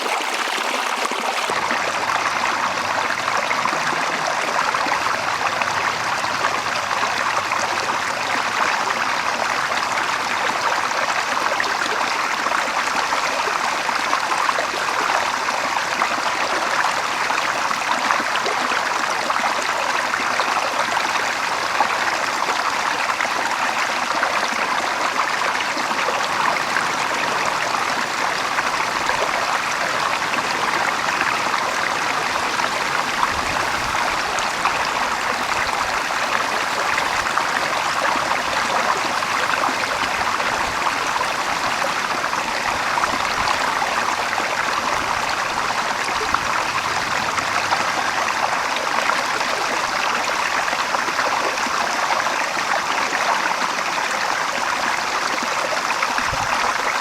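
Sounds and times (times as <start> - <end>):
water flowing: 0.0 - 57.0.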